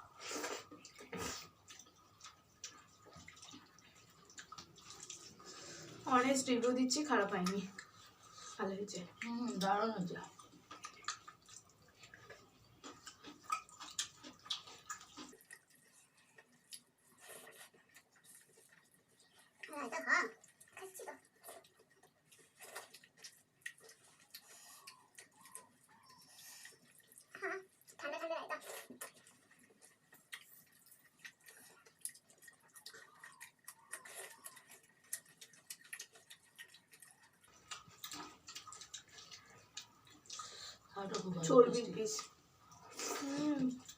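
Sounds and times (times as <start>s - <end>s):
food being mixed and chewed: 0.0s - 43.9s.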